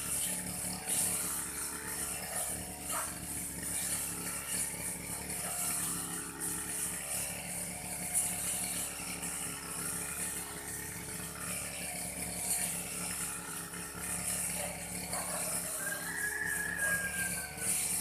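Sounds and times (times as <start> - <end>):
brush cutter engine drone: 0.0 - 18.0.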